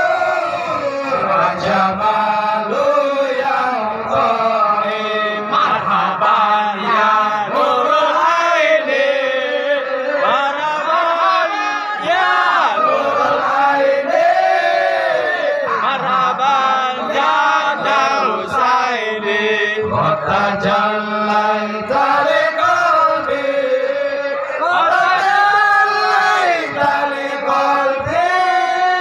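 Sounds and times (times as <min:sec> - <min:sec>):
men chanting into microphones: 0:00.0 - 0:29.0.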